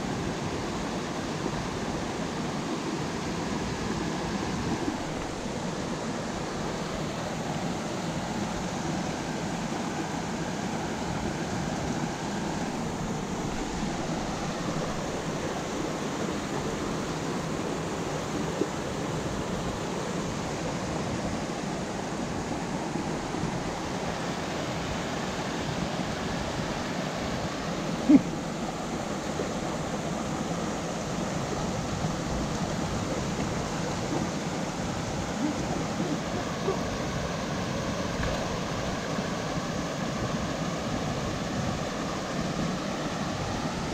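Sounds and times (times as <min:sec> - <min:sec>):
creek rushing over rocks: 0:00.0 - 0:43.9.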